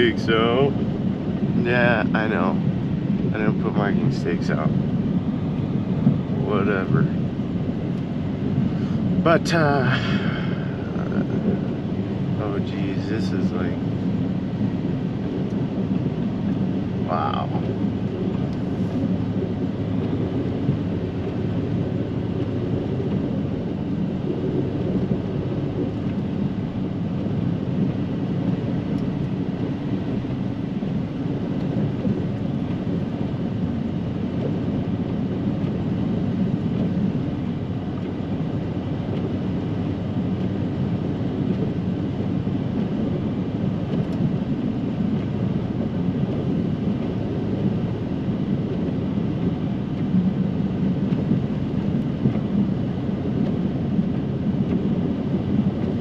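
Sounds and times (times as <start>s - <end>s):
truck engine low rumble: 0.0s - 56.0s.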